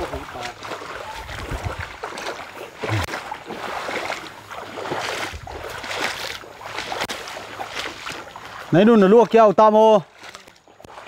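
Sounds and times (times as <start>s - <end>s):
footsteps squelching in mud: 0.0s - 11.0s.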